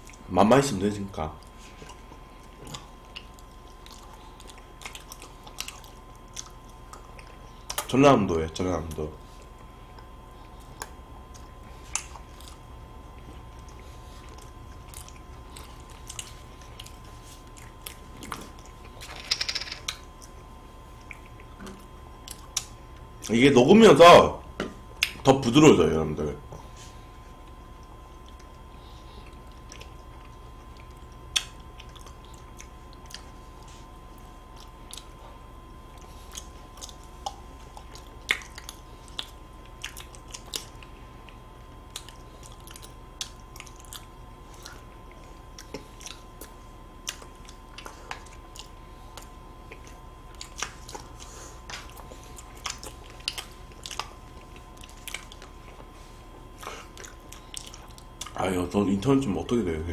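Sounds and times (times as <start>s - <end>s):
chewing with wet clicks: 0.0s - 0.3s, 1.2s - 23.4s, 24.8s - 25.6s, 26.5s - 59.3s.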